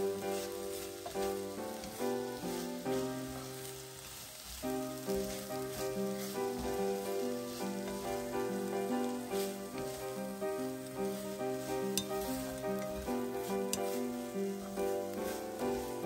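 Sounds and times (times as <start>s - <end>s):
background music melody: 0.0s - 16.0s
chopsticks tossing food: 0.0s - 16.0s
fish stir-frying in a pan: 0.0s - 16.0s.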